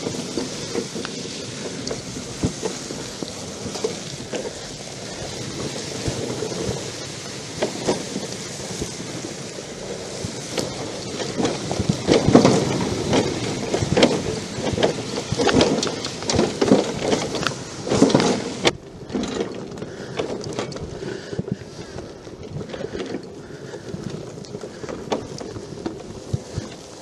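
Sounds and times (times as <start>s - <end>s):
garden tractor rumbling and knocking: 0.0s - 27.0s
wind buffeting microphone: 0.0s - 27.0s.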